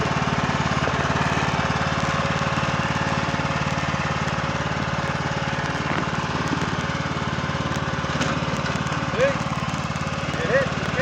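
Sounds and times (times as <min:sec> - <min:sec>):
riding lawn mower engine running: 0:00.0 - 0:11.0.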